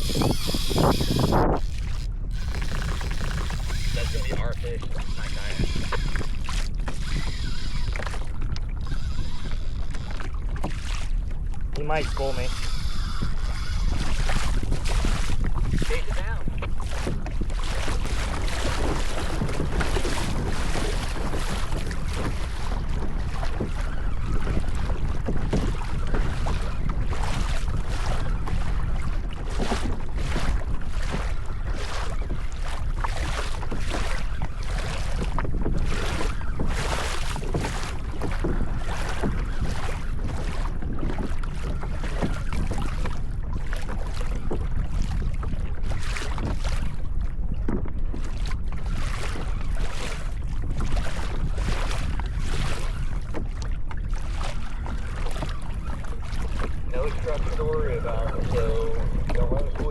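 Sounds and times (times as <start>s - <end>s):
water sloshing against hull: 0.0s - 59.9s
wind buffeting microphone: 0.0s - 59.9s.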